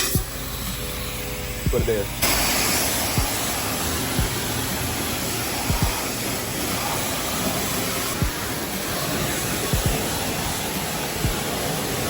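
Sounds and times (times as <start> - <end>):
pressure wand spraying water: 0.0 - 12.0.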